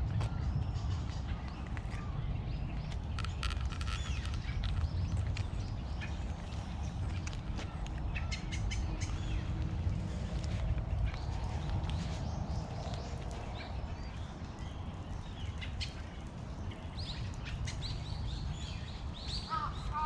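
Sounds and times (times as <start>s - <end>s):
low background rumble: 0.0s - 20.0s
small birds chirping: 0.1s - 20.0s.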